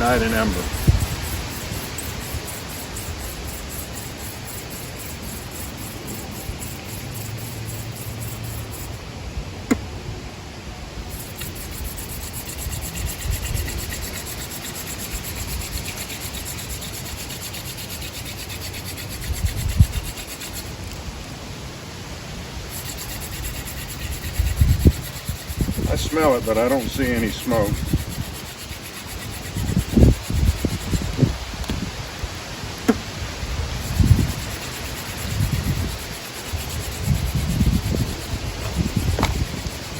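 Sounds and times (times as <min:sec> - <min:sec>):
rhythmic rubbing of wood on wood: 0:00.0 - 0:09.0, 0:11.1 - 0:21.0, 0:22.6 - 0:31.3, 0:33.6 - 0:39.9
wind buffeting microphone: 0:00.0 - 0:10.4, 0:11.0 - 0:20.6, 0:22.6 - 0:39.9.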